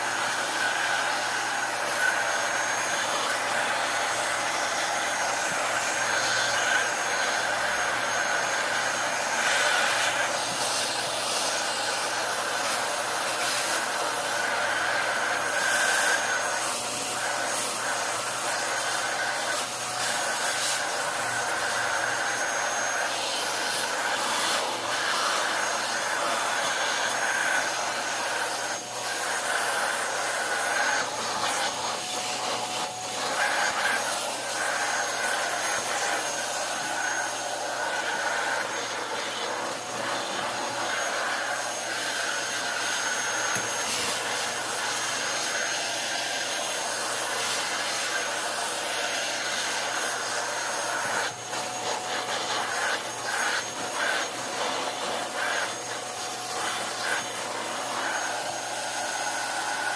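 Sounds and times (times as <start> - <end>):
electric blower motor whining: 0.0 - 59.9.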